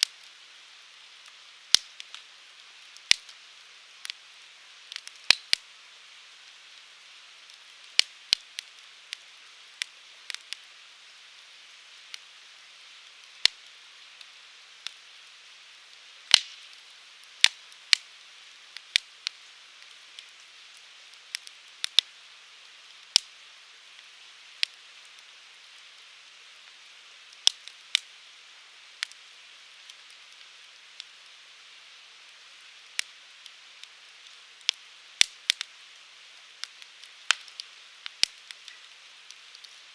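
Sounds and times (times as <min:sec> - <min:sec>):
firewood crackling and popping: 0:00.0 - 0:39.9
soft fire hiss: 0:00.0 - 0:39.9.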